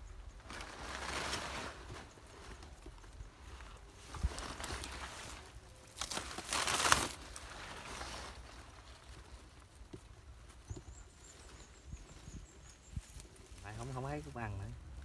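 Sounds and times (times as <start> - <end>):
rustling in tall grass: 0.0 - 15.0.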